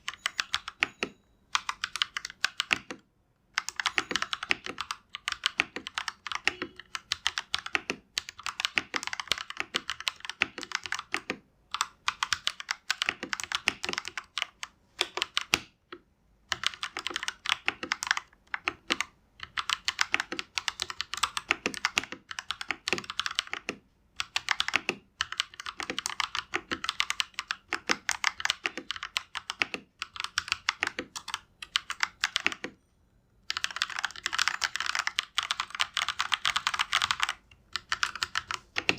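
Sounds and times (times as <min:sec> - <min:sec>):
fast typing on mechanical keyboard: 0:00.0 - 0:03.0, 0:03.6 - 0:15.8, 0:16.5 - 0:32.8, 0:33.5 - 0:38.9.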